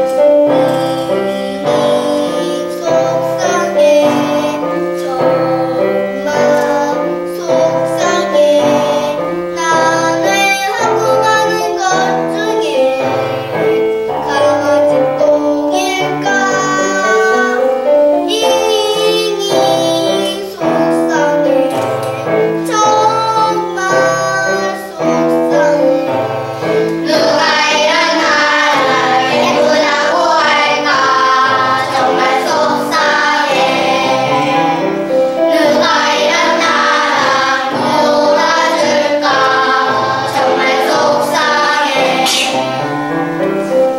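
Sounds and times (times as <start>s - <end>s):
children singing: 0.0s - 43.9s
piano accompaniment: 0.0s - 43.9s.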